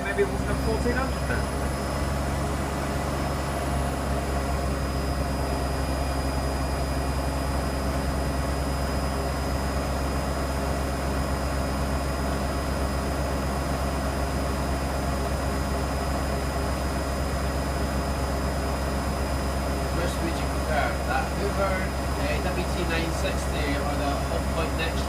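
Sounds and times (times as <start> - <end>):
washing machine drum spinning: 0.0 - 25.0.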